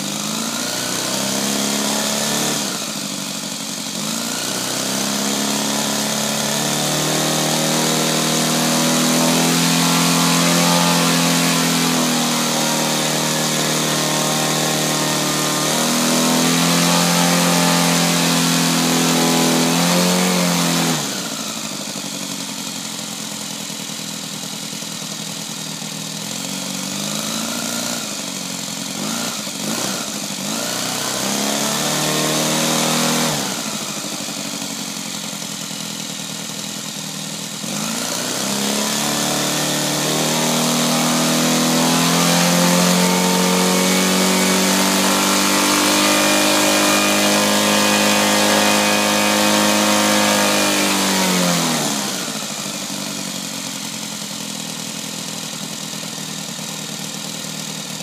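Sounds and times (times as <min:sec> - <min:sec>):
model aircraft engine revving: 0:00.0 - 0:58.0.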